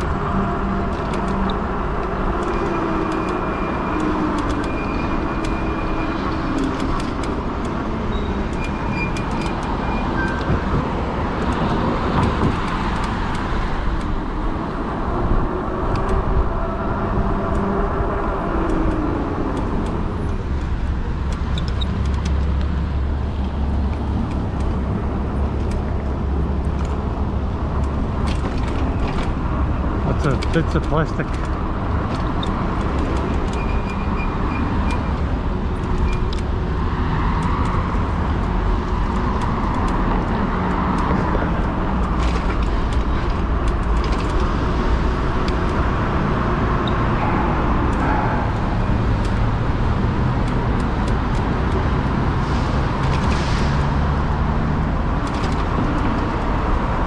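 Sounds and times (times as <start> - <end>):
road noise rumble: 0.0 - 57.0
vehicles passing: 0.0 - 57.0.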